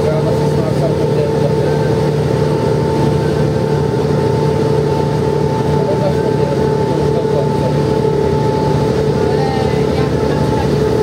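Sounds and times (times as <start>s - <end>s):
bus engine droning with whine: 0.0s - 11.0s.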